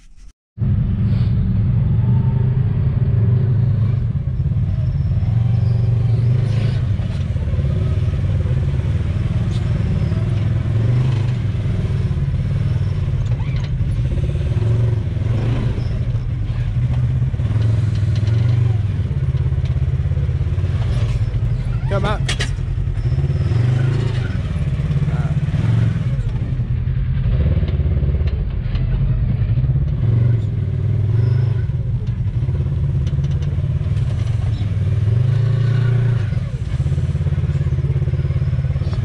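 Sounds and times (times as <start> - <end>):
vehicle engine running at low revs: 0.6 - 39.0.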